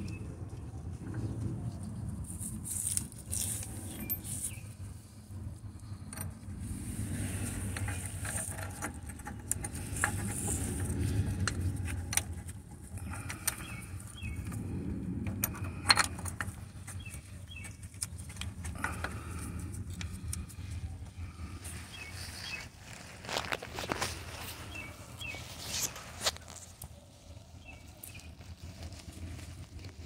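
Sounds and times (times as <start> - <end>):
low rumble: 0.0 - 25.6.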